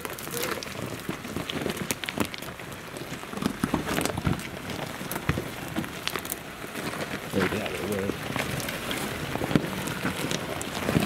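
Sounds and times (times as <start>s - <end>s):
gravel and rocks crunching: 0.0s - 11.0s
stones clicking and cracking: 0.0s - 11.0s.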